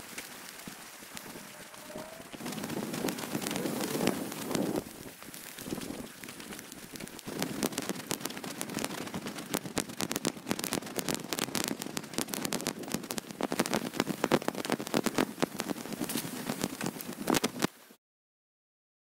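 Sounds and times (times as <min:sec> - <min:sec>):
footsteps crackling through vegetation: 0:00.0 - 0:17.9.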